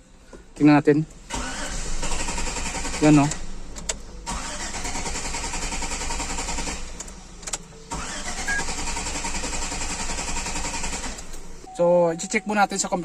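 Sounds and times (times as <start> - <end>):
engine cranking without starting: 1.1 - 11.7.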